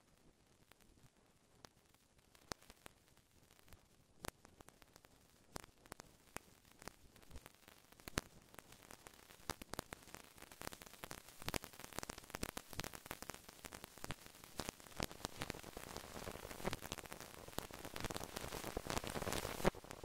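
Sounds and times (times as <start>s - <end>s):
crackling static: 0.0s - 20.0s.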